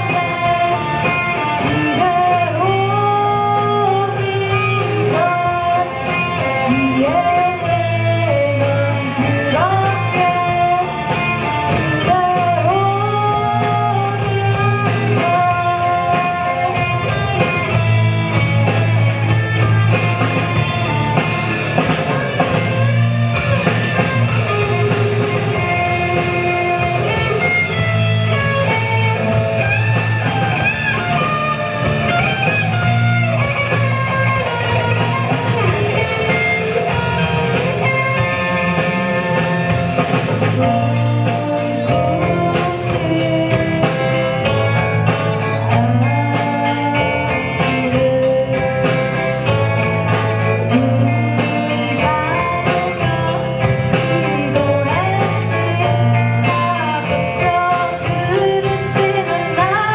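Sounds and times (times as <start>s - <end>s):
bass guitar: 0.0s - 59.9s
drum kit: 0.0s - 59.9s
electric guitar: 0.0s - 59.9s
person singing: 0.0s - 59.9s.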